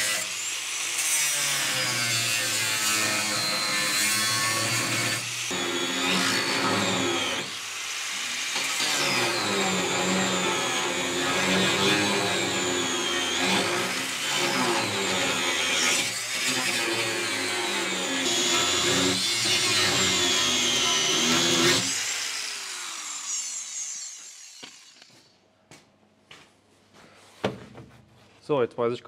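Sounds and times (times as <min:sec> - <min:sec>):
angle grinder grinding steel: 0:00.0 - 0:25.3.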